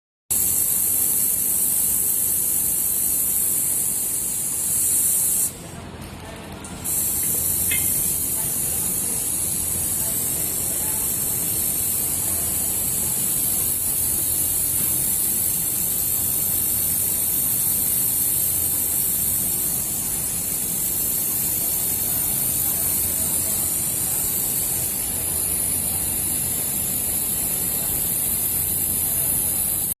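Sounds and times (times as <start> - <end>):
laser welder hissing and humming: 0.3 - 30.0.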